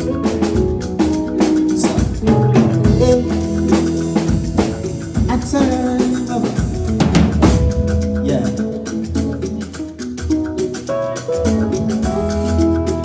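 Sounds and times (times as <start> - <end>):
drum kit beat: 0.0 - 13.0
live band playing: 0.0 - 13.0.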